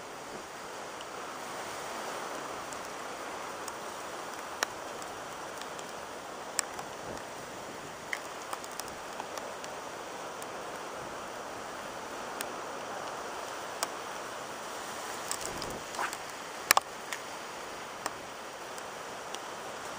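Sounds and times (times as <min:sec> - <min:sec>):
rain and wind hiss: 0:00.0 - 0:19.9.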